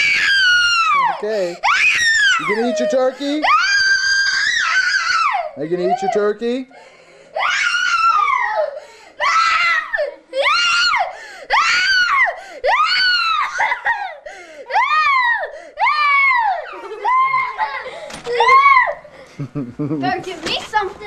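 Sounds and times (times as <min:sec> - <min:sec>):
child screaming and wailing: 0:00.0 - 0:06.2, 0:07.4 - 0:19.1.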